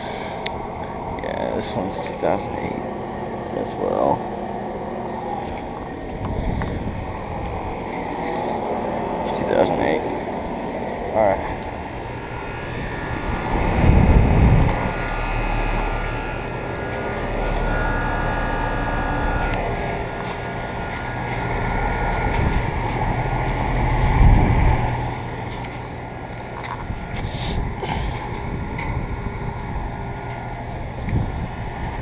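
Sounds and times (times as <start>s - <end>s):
air conditioner unit running: 0.0s - 32.0s
loud low rumbles: 0.0s - 32.0s.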